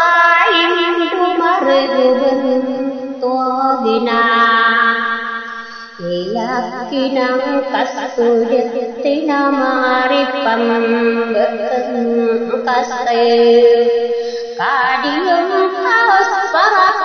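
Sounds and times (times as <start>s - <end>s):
person chanting: 0.0s - 17.0s.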